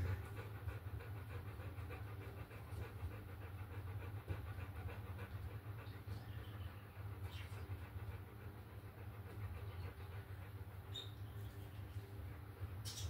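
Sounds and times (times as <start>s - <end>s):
dog panting: 0.0s - 12.9s.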